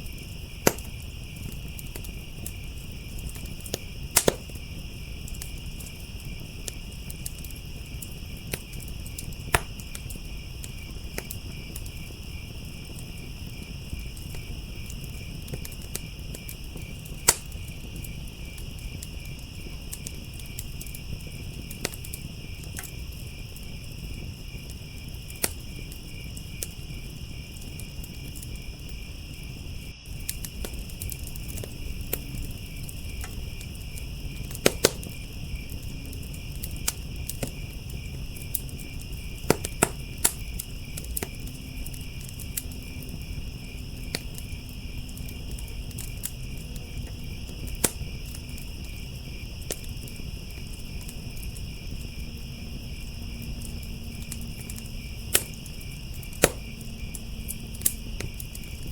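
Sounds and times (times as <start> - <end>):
crickets chirping: 0.0 - 58.9
wood fire crackling: 0.0 - 58.9.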